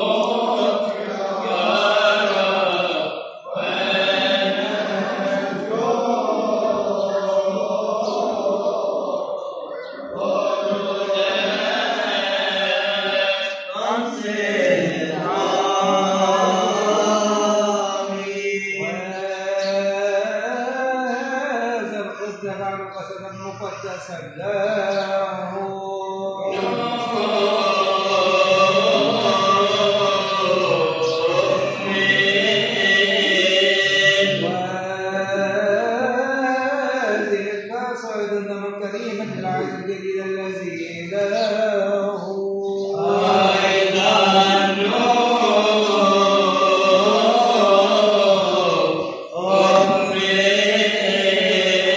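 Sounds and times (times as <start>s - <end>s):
person singing liturgical chant: 0.0s - 51.9s.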